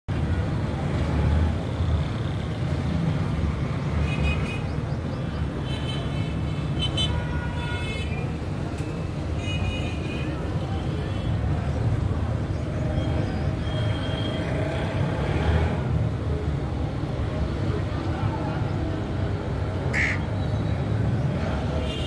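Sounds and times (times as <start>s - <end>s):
road traffic rumble: 0.1s - 22.0s.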